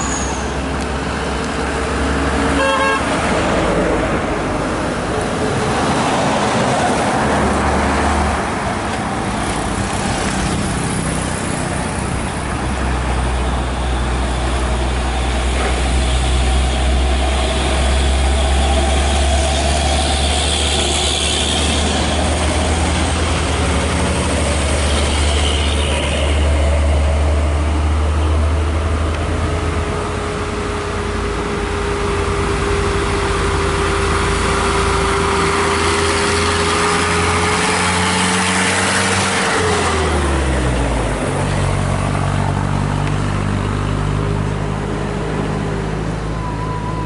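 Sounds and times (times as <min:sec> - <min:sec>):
truck engine rumble: 0:00.0 - 0:47.0
tyre and road noise: 0:00.0 - 0:47.0.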